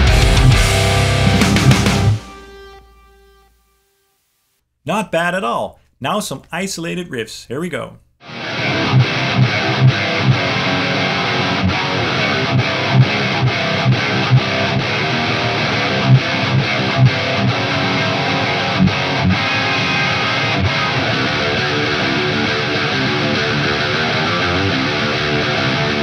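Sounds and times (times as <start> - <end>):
palm-muted electric guitar riffs: 0.0 - 3.4, 8.2 - 26.0.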